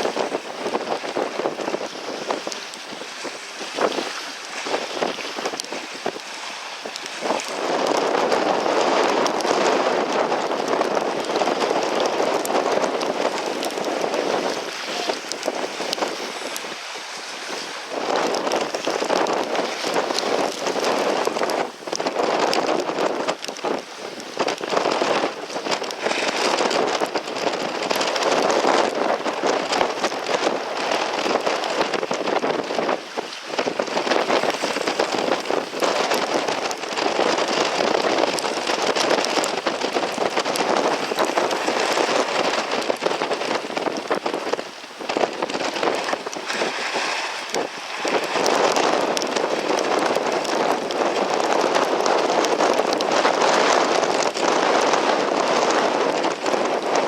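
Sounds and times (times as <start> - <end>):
water rushing around boat: 0.0 - 57.0
wind buffeting microphone: 0.0 - 57.0.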